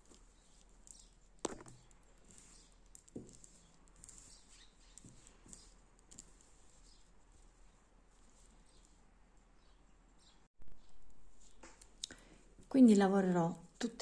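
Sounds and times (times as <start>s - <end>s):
cord rustling: 0.0s - 12.7s.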